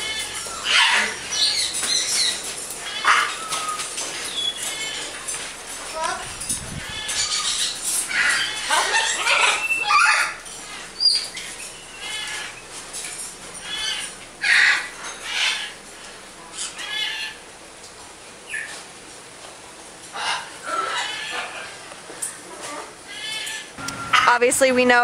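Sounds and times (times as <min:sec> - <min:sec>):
parrots squawking: 0:00.0 - 0:17.5, 0:18.5 - 0:18.8, 0:20.1 - 0:24.4.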